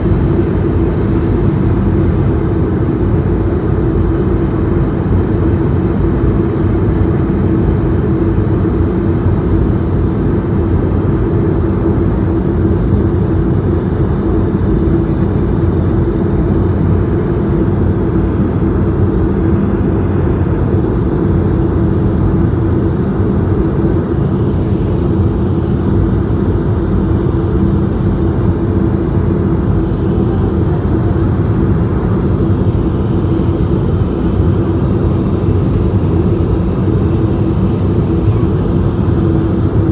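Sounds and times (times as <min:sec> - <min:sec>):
airliner cabin engine roar: 0:00.0 - 0:39.9
steady hum: 0:00.0 - 0:39.9.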